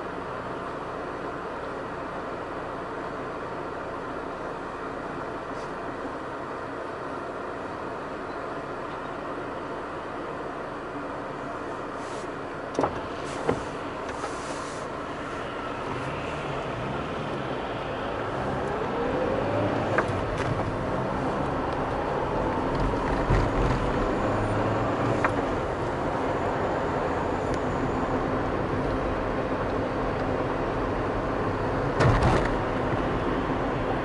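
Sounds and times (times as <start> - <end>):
car engine: 0.0 - 34.0
road noise: 0.0 - 34.0.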